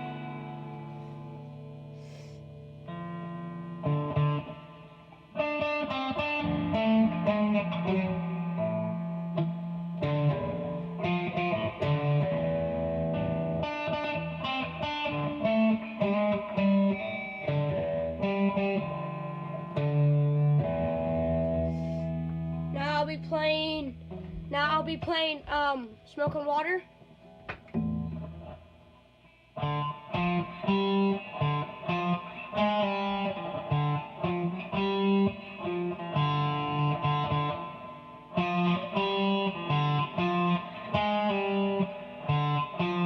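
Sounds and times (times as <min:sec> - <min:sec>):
distorted electric guitar riff: 0:00.0 - 0:43.0.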